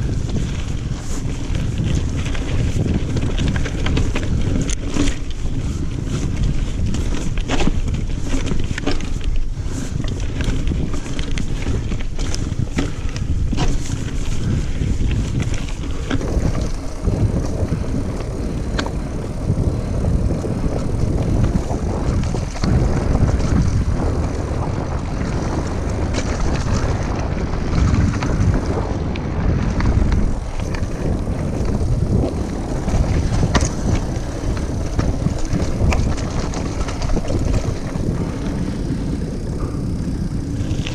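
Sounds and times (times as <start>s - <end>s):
bike knocks and rattles: 0.0s - 40.9s
bike tyre noise on dirt: 0.0s - 40.9s
wind rushing over microphone: 0.0s - 40.9s.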